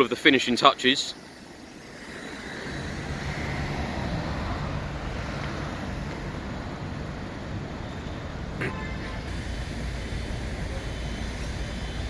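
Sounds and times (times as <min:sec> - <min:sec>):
road traffic: 0:00.0 - 0:12.0
low rumble of vehicle engine: 0:01.6 - 0:12.0.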